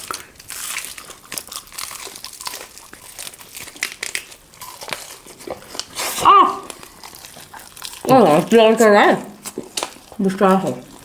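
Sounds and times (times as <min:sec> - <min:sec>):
crunchy chewing of chicken: 0:00.0 - 0:11.0.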